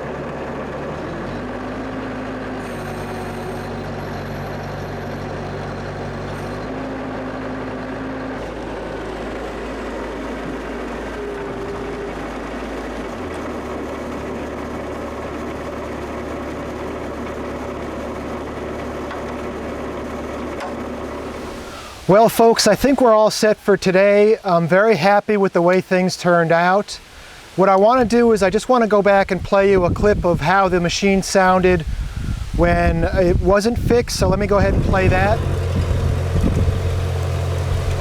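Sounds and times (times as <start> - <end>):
diesel engine running: 0.0 - 23.8, 29.6 - 38.0.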